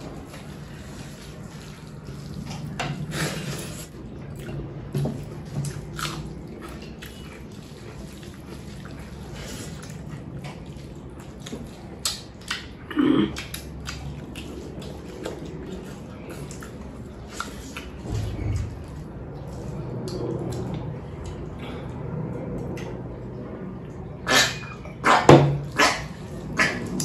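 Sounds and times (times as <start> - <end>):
chewing sounds: 2.0 - 27.0.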